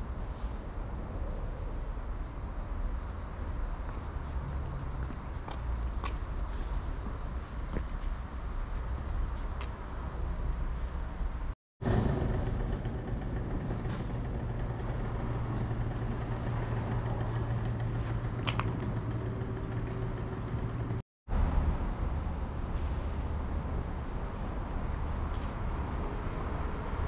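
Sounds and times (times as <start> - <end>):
distant road traffic rumble: 0.0 - 27.0.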